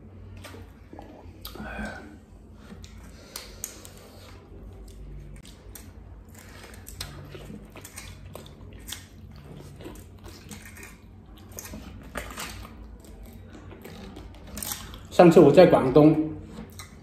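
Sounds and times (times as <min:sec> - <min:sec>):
man biting and chewing: 0:00.2 - 0:15.1, 0:16.4 - 0:17.0.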